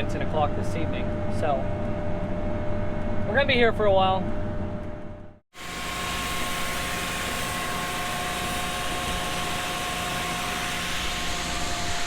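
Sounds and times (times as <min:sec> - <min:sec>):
steady whining tones: 0:00.0 - 0:12.0.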